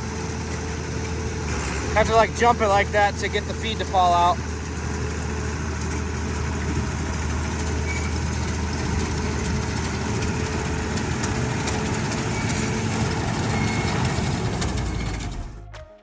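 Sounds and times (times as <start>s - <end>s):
machinery clicks and rattles: 0.0s - 15.5s
tractor diesel engine running: 0.0s - 15.8s.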